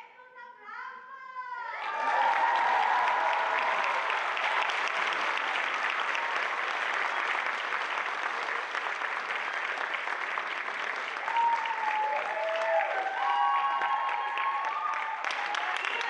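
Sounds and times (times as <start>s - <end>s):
audience applauding: 1.8s - 16.0s.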